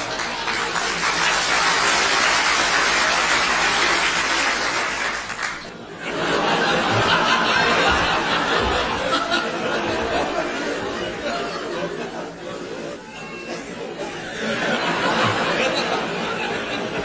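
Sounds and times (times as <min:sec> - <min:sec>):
crowd laughing and chattering: 0:00.0 - 0:17.0.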